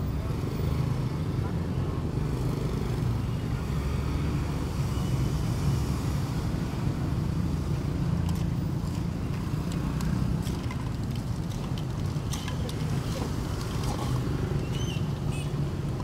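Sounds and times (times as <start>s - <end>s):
low rumble of street food stall: 0.0s - 16.0s.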